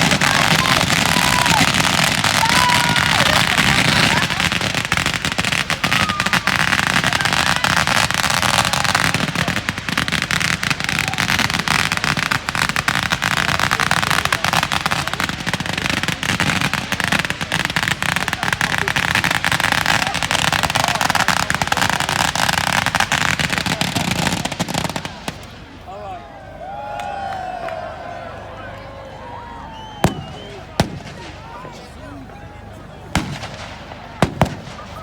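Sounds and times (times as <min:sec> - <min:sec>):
fireworks crackling bangs: 0:00.0 - 0:25.8, 0:29.8 - 0:32.3, 0:33.0 - 0:35.0.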